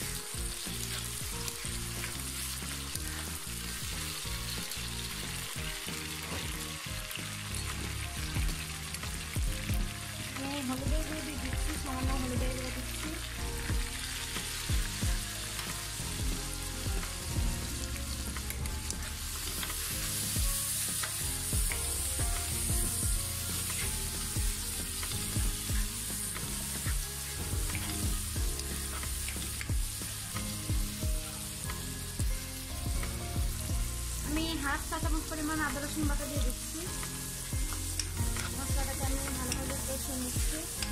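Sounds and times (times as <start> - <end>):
onion and tomato sizzling: 0.0 - 40.9.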